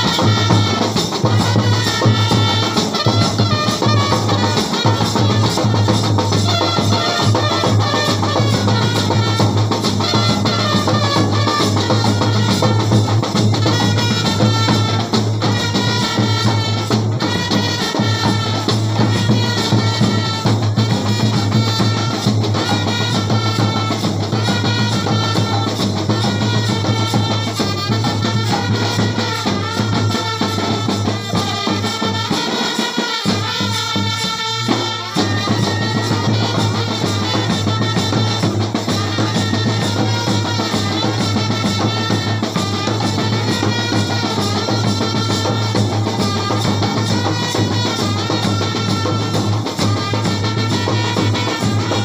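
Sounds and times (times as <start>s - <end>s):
street band drums: 0.0s - 52.0s.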